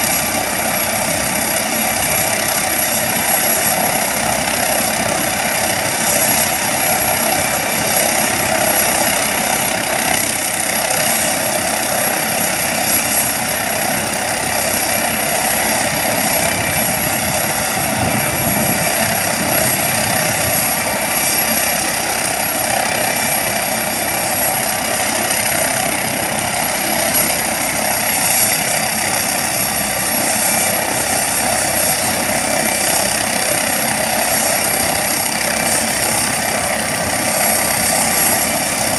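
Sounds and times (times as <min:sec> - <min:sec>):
helicopter turbine and rotor noise: 0:00.0 - 0:38.9.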